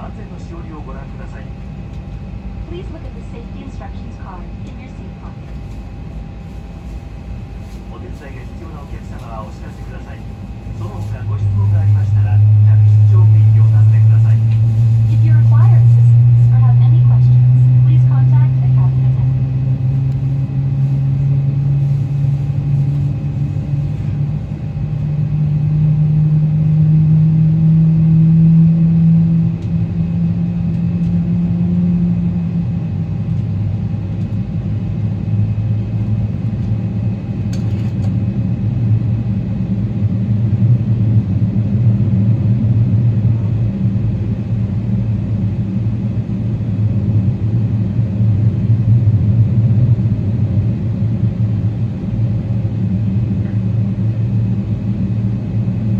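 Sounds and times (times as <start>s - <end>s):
aircraft cabin engine drone: 0.0s - 55.9s.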